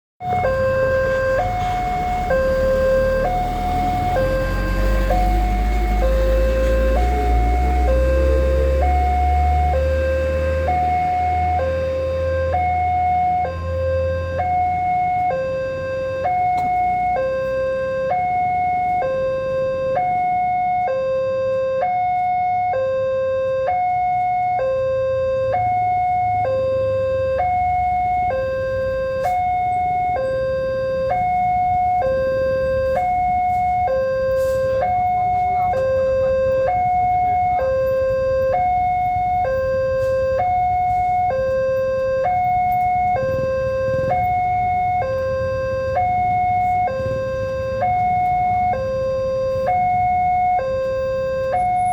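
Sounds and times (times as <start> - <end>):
two-tone crossing alarm: 0.2 - 51.9.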